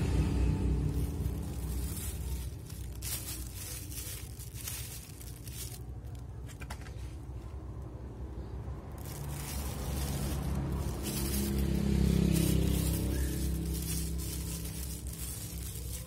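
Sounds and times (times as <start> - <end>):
plastic bag crinkling: 0.0 - 6.8, 8.4 - 16.0.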